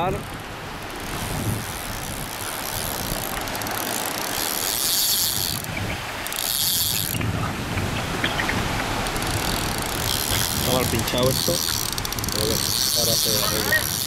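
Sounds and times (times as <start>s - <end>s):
fishing reel ratchet buzzing: 0.0s - 7.2s, 8.9s - 14.0s
small waves washing on shore: 0.0s - 14.0s.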